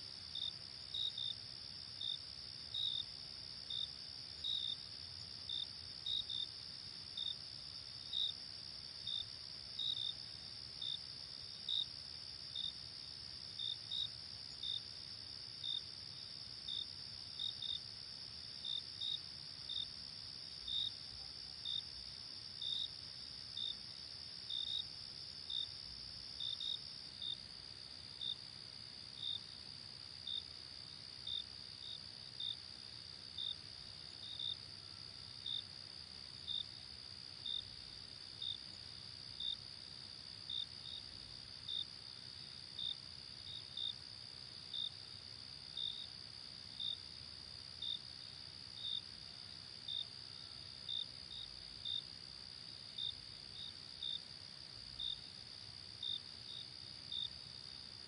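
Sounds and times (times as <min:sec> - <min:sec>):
single cricket chirping: 0:00.0 - 0:58.0
steady high insect trill: 0:00.2 - 0:58.0.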